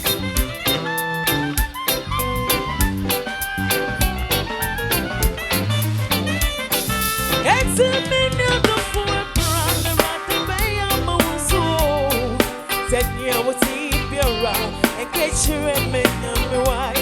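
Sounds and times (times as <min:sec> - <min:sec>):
upbeat music with drum beat: 0:00.0 - 0:17.0.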